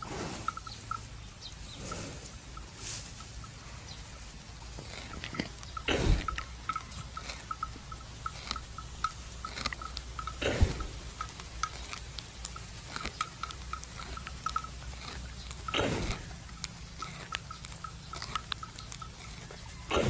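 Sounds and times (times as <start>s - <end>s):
buffalo chewing cud: 0.0s - 20.0s.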